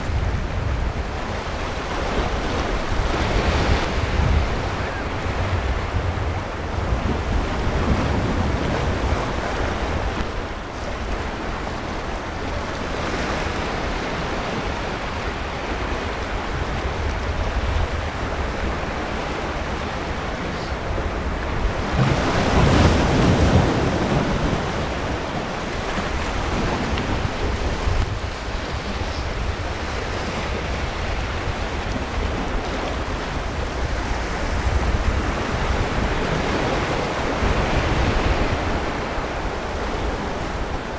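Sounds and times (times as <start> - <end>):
sea waves washing onto beach: 0.0 - 40.9
wind buffeting microphone: 0.0 - 40.9.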